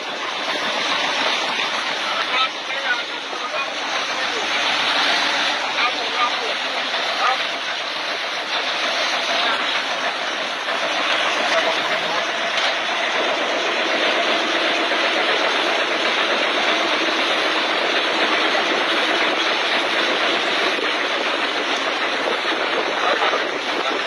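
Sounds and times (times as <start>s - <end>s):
boat engine: 0.0s - 24.0s
sea noise: 0.0s - 24.0s
wind: 0.0s - 24.0s.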